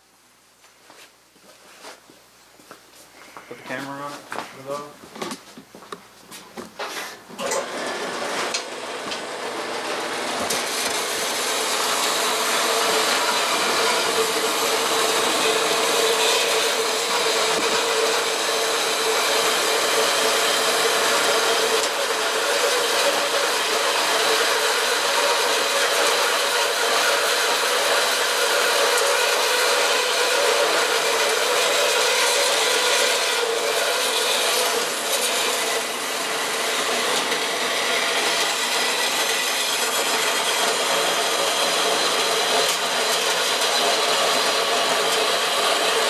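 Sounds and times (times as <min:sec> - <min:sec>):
band saw cutting metal: 0:07.4 - 0:46.0.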